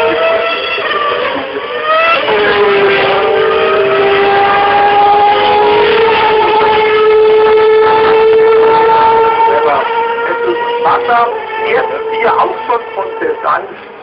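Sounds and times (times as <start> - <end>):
racing car engine whine: 0.0 - 14.0
second racing car engine: 0.0 - 14.0.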